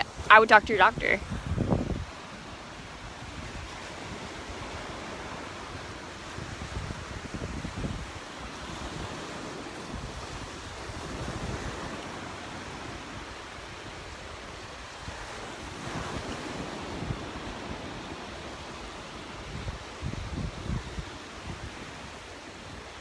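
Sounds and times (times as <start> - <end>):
surf washing onto beach: 0.0 - 23.0
wind buffeting microphone: 0.0 - 23.0.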